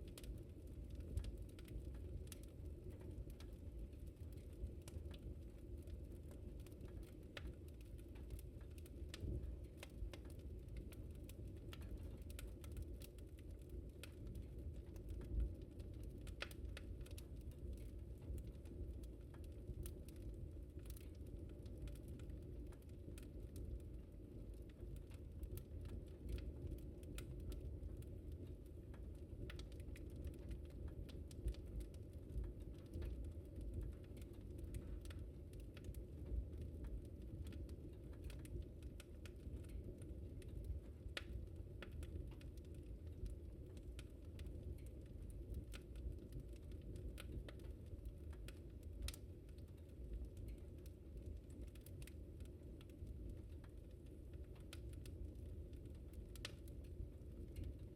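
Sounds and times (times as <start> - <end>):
fire crackling: 0.0 - 57.9
low rumble of flames: 0.0 - 57.9.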